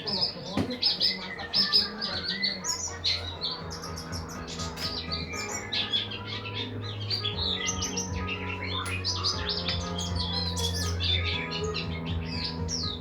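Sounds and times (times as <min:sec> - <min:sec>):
songbird chirping rapidly: 0:00.0 - 0:13.0.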